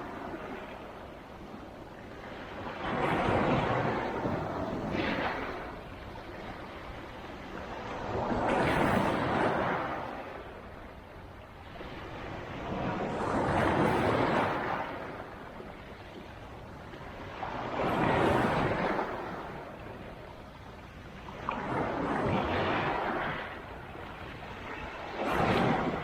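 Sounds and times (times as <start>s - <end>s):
waves breaking on shore: 0.0s - 26.0s.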